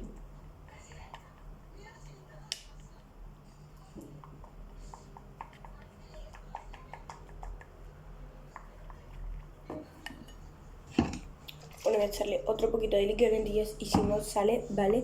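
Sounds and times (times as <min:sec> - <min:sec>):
utensil stirring slime in bowl: 0:00.0 - 0:15.0.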